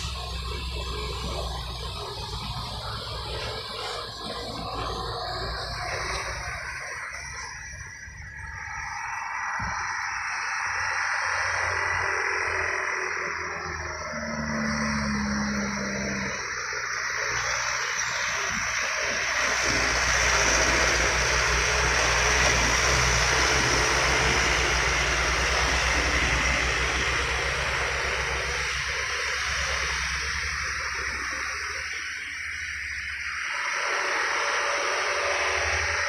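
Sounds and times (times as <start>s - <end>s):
diesel trucks passing: 0.0s - 36.0s.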